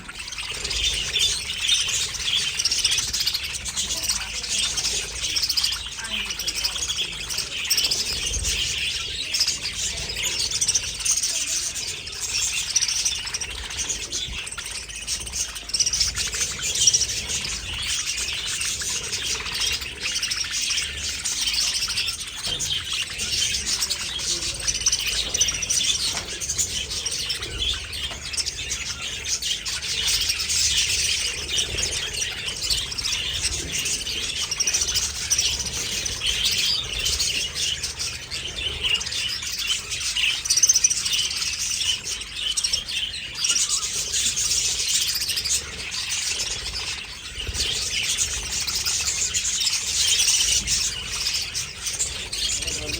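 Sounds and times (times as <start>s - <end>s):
budgerigars chattering and chirping: 0.0s - 52.9s.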